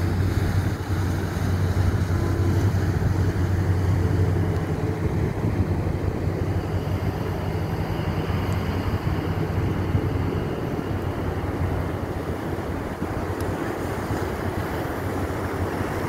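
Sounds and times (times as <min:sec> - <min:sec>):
ferry engines droning: 0:00.0 - 0:16.0
wake rushing: 0:00.0 - 0:16.0
wind on microphone: 0:00.0 - 0:16.0.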